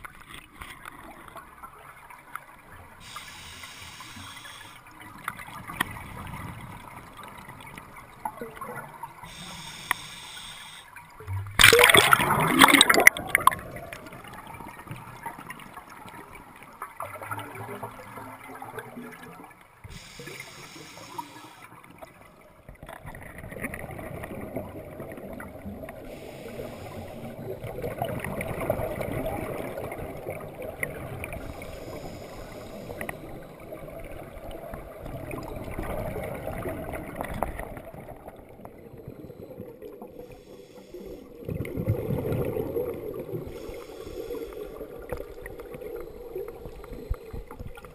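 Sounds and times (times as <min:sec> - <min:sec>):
underwater air bubbles gurgling: 0:00.0 - 0:47.9.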